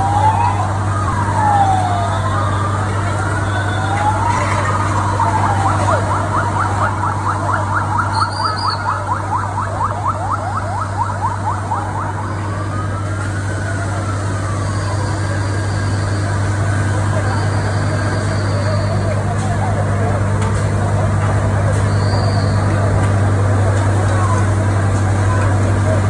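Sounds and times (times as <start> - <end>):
fire engine sirens wailing: 0.0 - 26.0.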